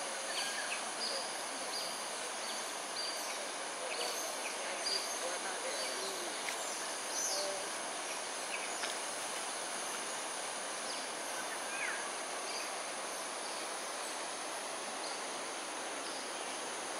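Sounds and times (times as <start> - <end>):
insect drone: 0.0 - 16.9
steady hiss: 0.0 - 16.9.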